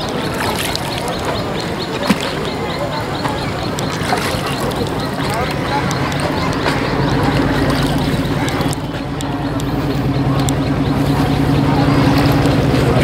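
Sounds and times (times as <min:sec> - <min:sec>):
small boat engine humming: 0:00.0 - 0:13.0.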